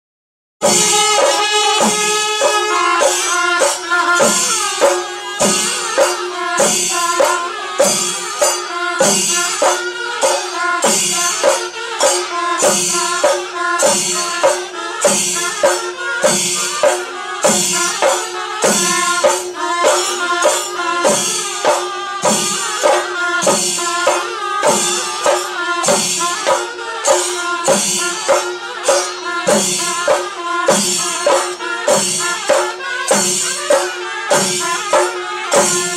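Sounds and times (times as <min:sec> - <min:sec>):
cymbal strikes: 0:00.6 - 0:35.9
drums: 0:00.6 - 0:35.9.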